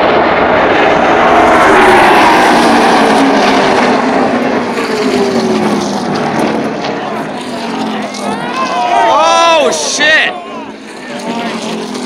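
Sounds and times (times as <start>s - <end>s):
race cars passing at full speed: 0.0s - 12.0s.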